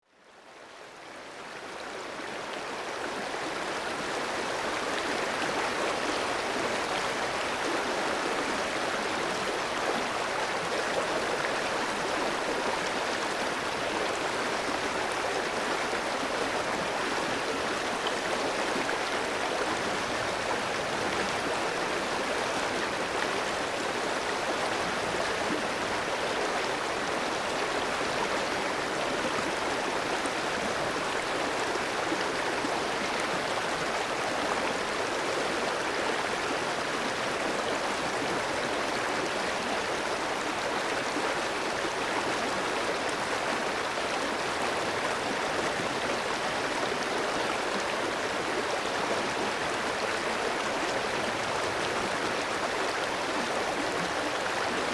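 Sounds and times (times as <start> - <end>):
stream flowing over rocks: 0.2 - 54.9.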